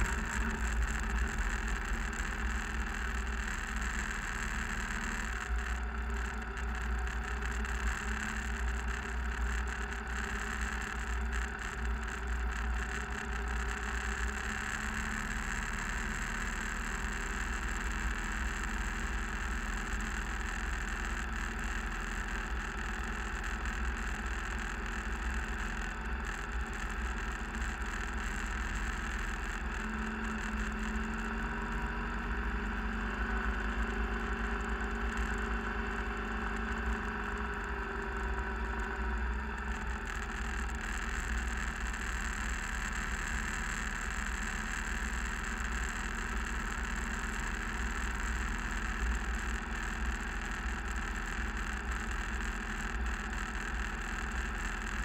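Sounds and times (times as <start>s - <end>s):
constant low hum: 0.0s - 55.0s
vehicle engine and tyre noise: 0.0s - 55.0s.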